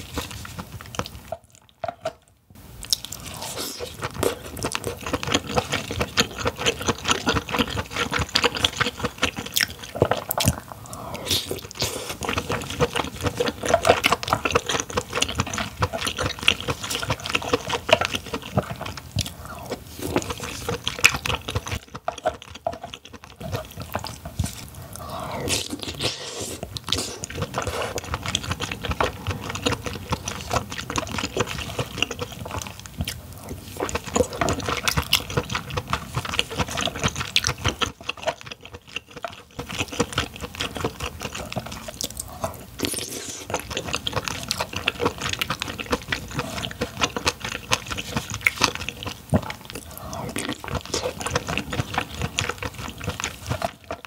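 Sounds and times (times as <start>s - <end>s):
wet chewing and slurping: 0.0s - 54.0s.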